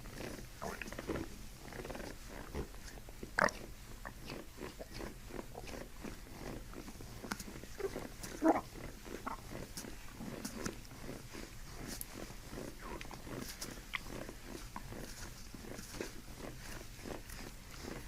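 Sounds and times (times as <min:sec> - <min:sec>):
stomach gurgling: 0:03.3 - 0:18.0.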